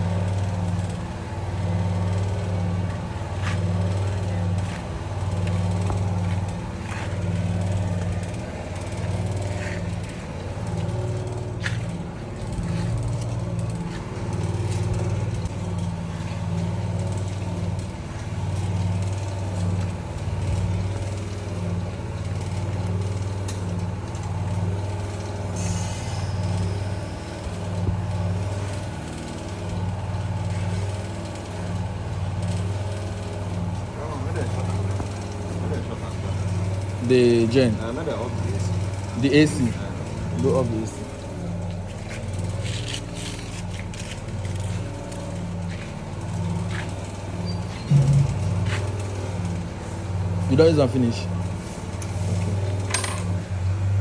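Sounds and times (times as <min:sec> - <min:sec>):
generator engine humming: 0:00.0 - 0:54.0.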